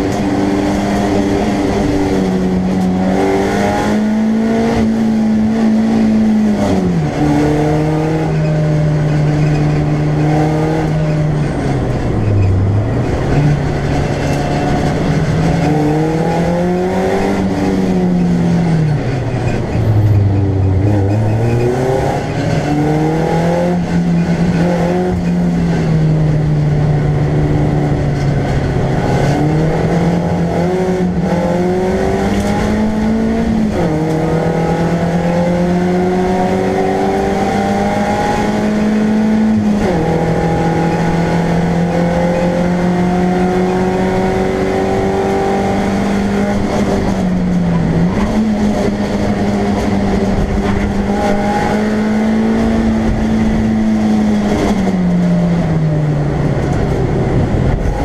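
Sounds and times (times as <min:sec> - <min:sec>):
race car engine under load: 0:00.0 - 0:58.0.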